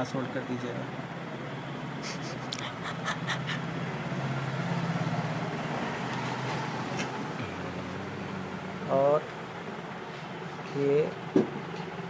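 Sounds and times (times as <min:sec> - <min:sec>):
steady low hum: 0:00.4 - 0:12.0.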